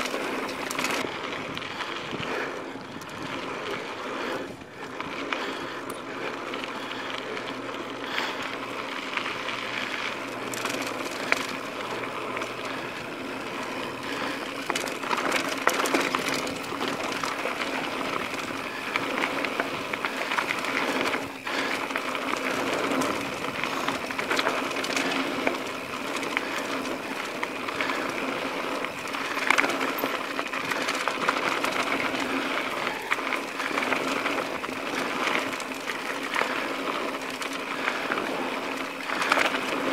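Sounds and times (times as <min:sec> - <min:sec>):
bike rattle and tyre noise: 0:00.0 - 0:39.9.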